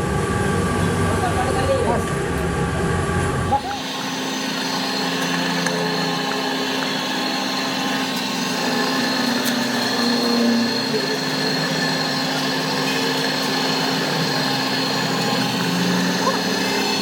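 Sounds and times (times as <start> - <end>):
power tool humming: 0.0 - 17.0.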